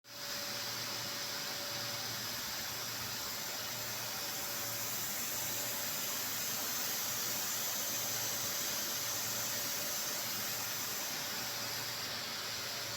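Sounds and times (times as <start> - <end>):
industrial machinery hiss: 0.1 - 12.9.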